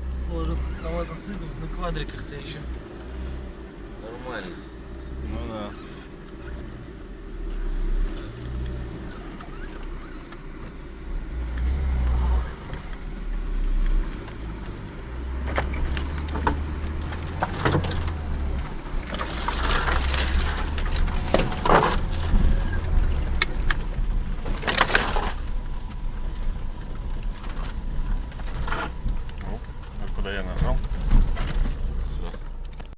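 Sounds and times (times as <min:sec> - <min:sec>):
body and suspension rattling: 0:00.0 - 0:32.9
car engine low rumble: 0:00.0 - 0:32.9.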